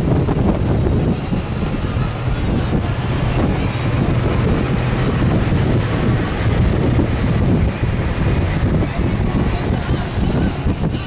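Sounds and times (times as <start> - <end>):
boat engines humming: 0.0 - 11.0
wind buffeting microphone: 0.0 - 11.0.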